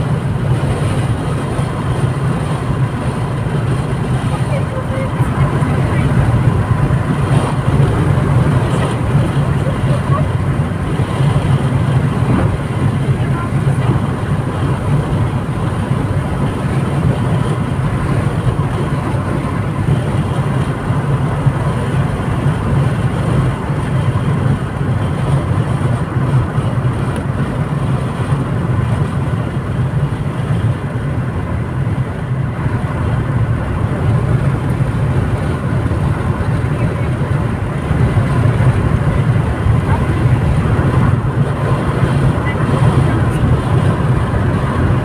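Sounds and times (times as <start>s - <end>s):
tyres droning on asphalt: 0.0s - 45.0s.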